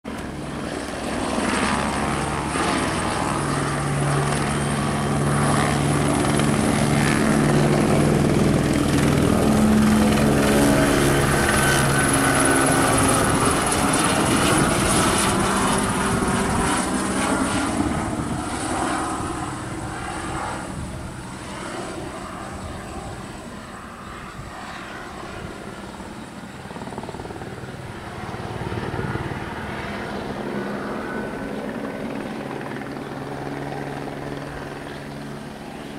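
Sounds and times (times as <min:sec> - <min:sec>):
helicopter rotor beat: 0:00.1 - 0:35.9
high turbine whine: 0:00.1 - 0:35.9.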